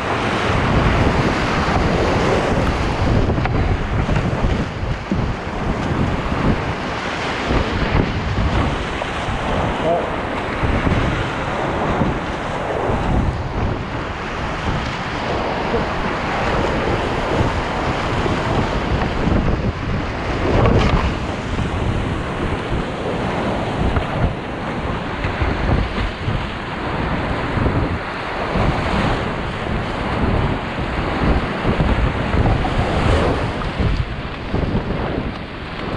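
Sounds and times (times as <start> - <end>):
hull and paddle splashing: 0.0 - 35.9
whitewater rapids rushing: 0.0 - 35.9
wind buffeting microphone: 0.0 - 35.9.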